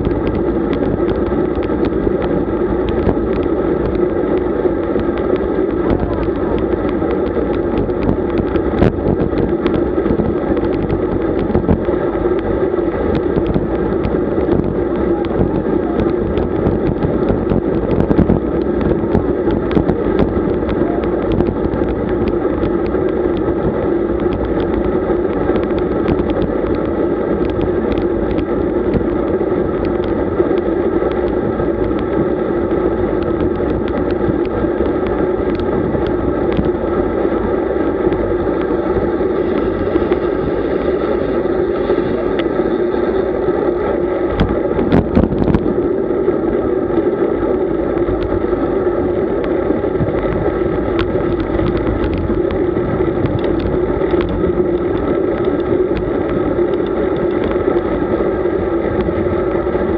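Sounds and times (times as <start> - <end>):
bike riding wind and road rumble: 0.0 - 59.9.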